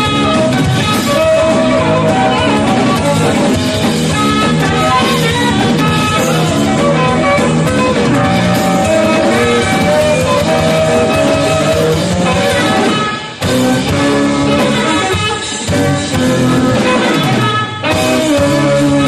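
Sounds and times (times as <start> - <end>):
live band music with guitar: 0.0 - 19.0.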